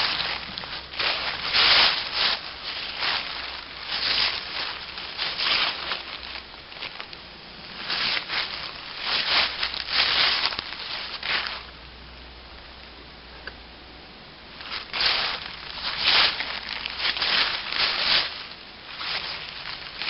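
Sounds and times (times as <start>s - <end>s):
footsteps rustling through leaves: 0.0s - 11.8s, 14.5s - 20.0s.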